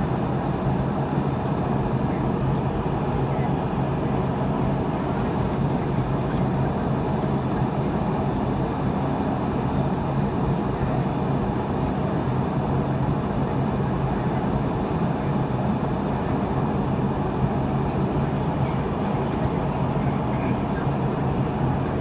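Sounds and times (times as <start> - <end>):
low jet engine hum: 0.0 - 22.0.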